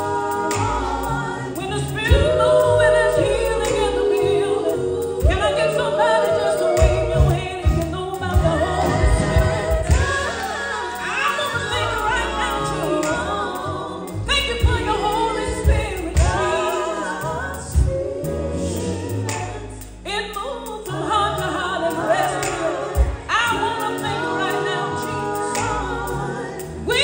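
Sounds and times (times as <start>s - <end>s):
low musical accompaniment: 0.0s - 27.0s
women's vocal group singing in harmony: 0.0s - 27.0s.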